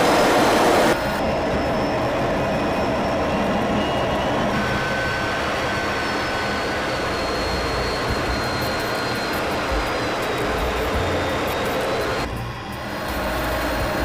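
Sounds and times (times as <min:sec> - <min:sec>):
jet engine hum: 0:00.0 - 0:14.0.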